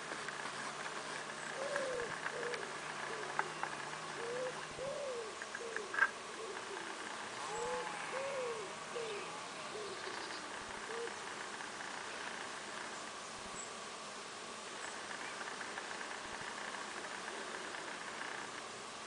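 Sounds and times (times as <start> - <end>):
bird cooing: 0.0 - 13.7, 14.8 - 18.6
faint background hum: 0.0 - 19.0.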